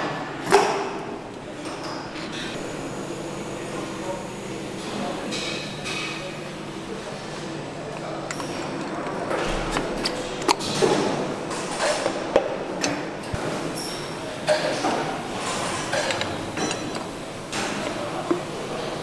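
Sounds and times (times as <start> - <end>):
workshop noise: 0.0 - 19.0.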